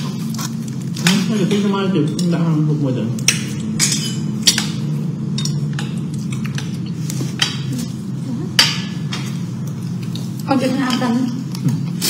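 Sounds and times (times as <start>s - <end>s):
steady low hum: 0.0s - 12.0s
dishes clinking: 1.0s - 7.9s, 8.5s - 11.9s.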